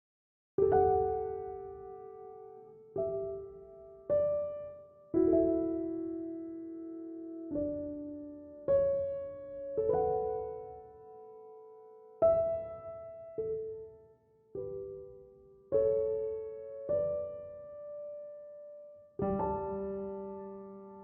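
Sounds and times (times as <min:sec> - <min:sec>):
gentle piano chords: 0:00.6 - 0:21.0.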